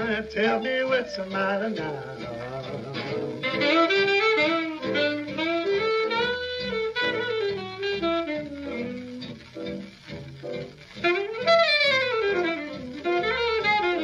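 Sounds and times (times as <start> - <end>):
alto saxophone jazz solo: 0.0 - 14.0
jazz rhythm section: 0.0 - 14.0.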